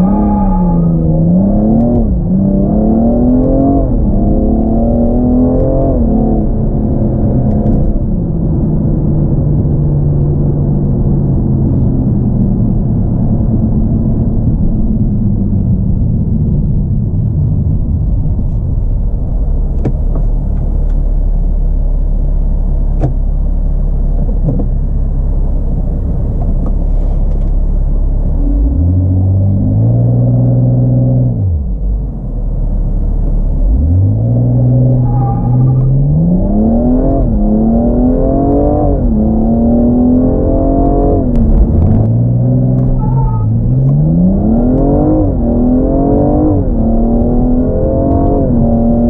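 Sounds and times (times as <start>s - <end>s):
car engine revving down: 0.0s - 49.0s.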